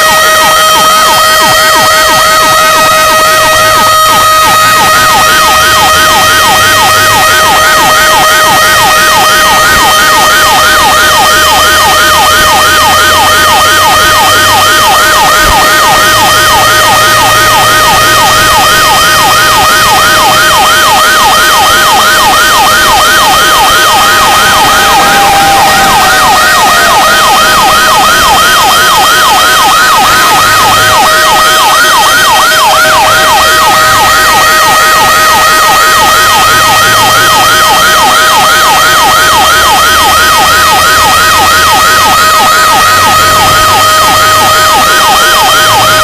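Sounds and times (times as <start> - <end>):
fire truck siren yelping: 0.0 - 46.0
slower siren wailing: 0.0 - 46.0
steady high siren tone: 0.0 - 46.0.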